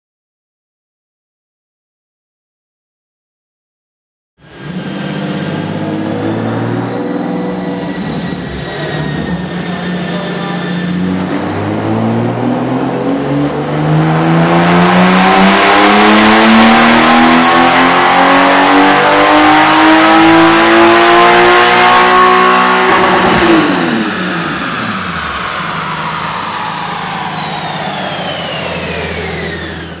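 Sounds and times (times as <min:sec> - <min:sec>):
car engine revving: 0:04.4 - 0:30.0
dyno rollers whining: 0:04.4 - 0:30.0.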